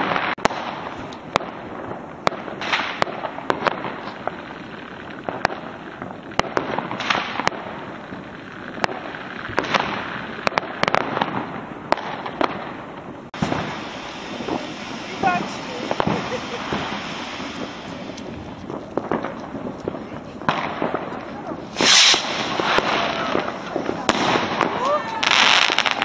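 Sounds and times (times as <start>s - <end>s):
firecrackers crackling: 0.0s - 26.0s
fireworks bangs: 0.0s - 26.0s.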